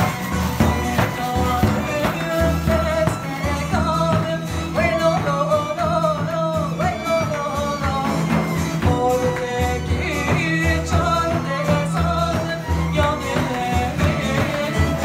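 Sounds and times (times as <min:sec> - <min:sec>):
frame drums: 0:00.0 - 0:15.0
woman singing: 0:00.0 - 0:15.0.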